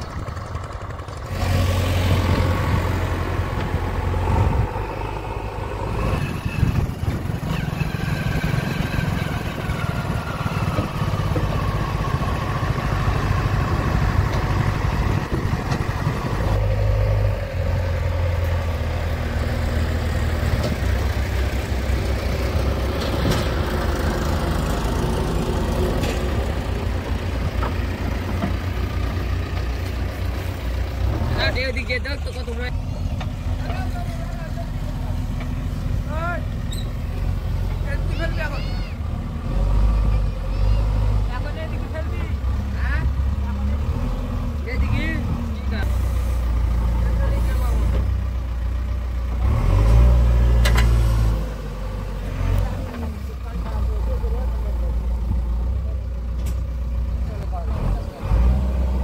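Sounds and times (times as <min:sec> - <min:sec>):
backhoe loader driving: 0:00.0 - 0:59.0
tractor diesel engine running: 0:00.0 - 0:59.0.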